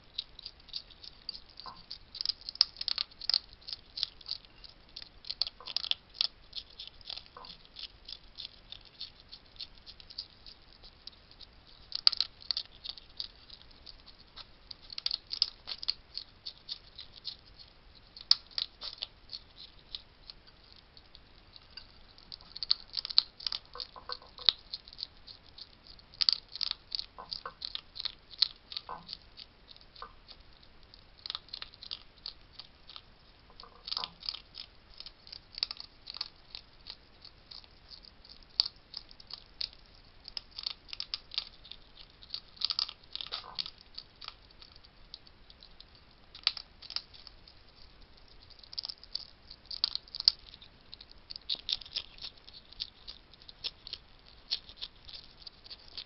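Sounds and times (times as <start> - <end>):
hedgehogs crunching food: 0.0 - 56.0.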